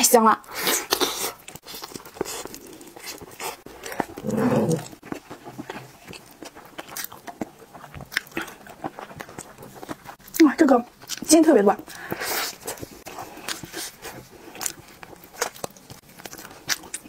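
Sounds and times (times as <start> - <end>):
wet chewing: 0.4 - 17.0.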